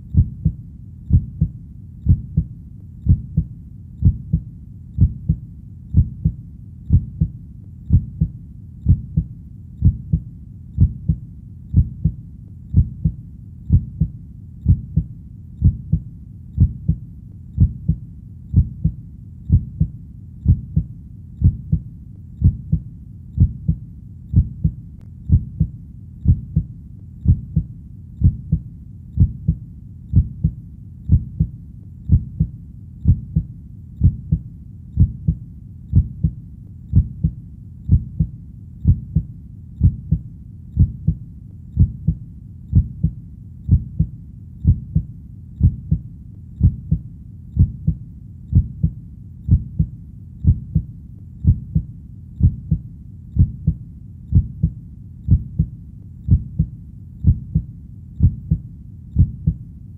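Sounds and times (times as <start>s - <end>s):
heartbeat thumps: 0.0s - 17.0s, 17.6s - 59.6s.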